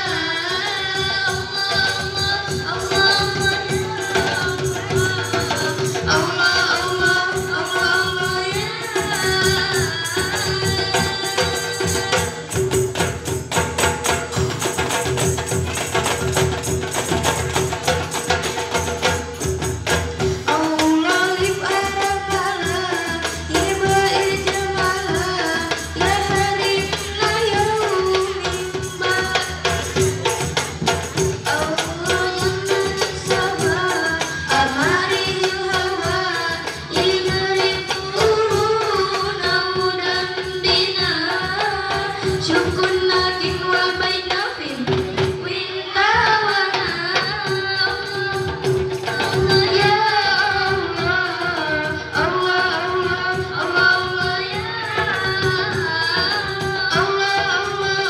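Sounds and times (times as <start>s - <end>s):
girls singing: 0.0s - 12.5s, 20.2s - 30.6s, 31.4s - 58.0s
frame drums and hand drums: 0.0s - 58.0s.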